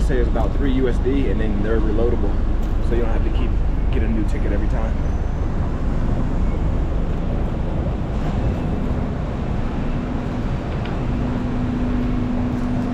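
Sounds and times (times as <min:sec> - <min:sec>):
electric train rumbling: 0:00.0 - 0:12.9
steady hum: 0:00.0 - 0:12.9.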